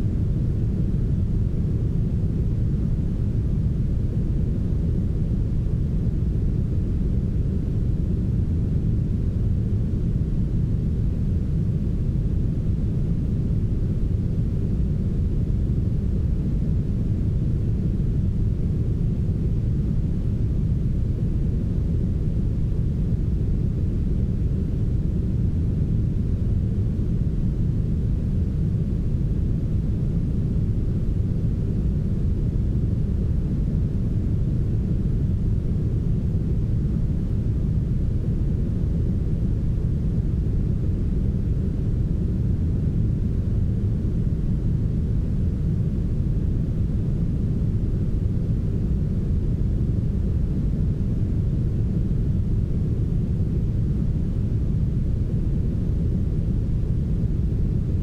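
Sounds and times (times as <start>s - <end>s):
deep muffled brown noise hiss: 0.0s - 58.0s.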